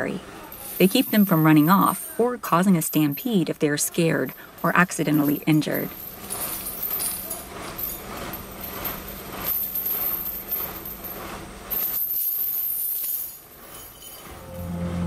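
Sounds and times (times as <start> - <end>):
iron chains clinking: 0.0 - 14.8.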